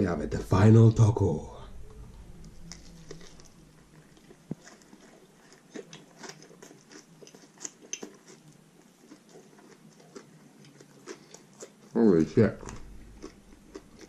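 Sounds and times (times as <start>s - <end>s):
biting and chewing food: 2.4s - 14.0s.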